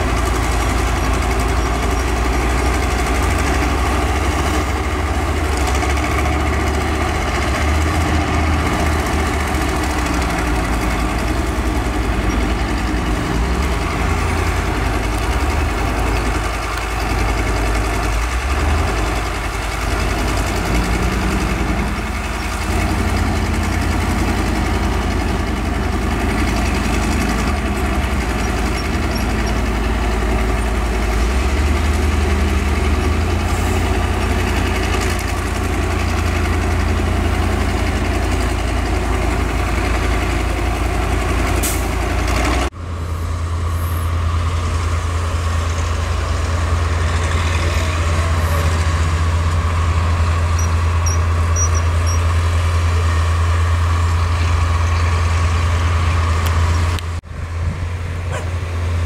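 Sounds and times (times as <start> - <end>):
bulldozer engine: 0.0 - 59.0
dump truck diesel engine: 0.0 - 59.0.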